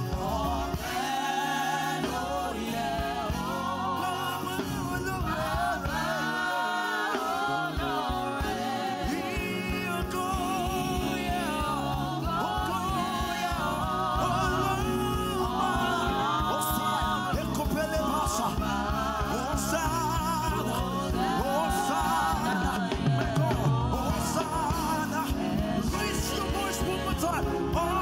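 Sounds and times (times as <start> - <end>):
bass guitar: 0.0 - 1.1, 1.8 - 6.3, 7.5 - 28.0
keyboard: 0.0 - 28.0
singers singing gospel: 0.0 - 28.0
steady drum beat: 0.0 - 28.0.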